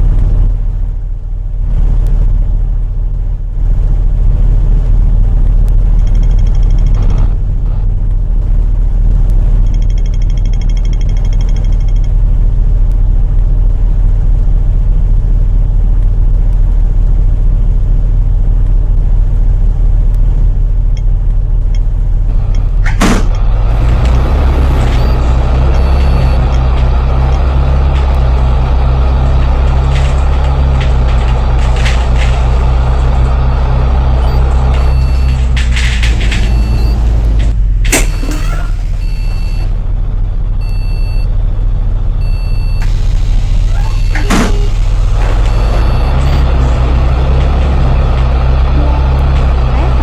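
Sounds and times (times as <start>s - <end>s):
bus diesel engine rumbling: 0.0s - 50.0s.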